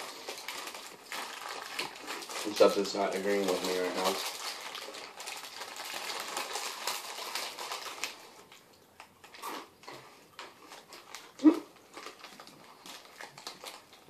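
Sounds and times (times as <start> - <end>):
chip bag crinkling: 0.0 - 14.0.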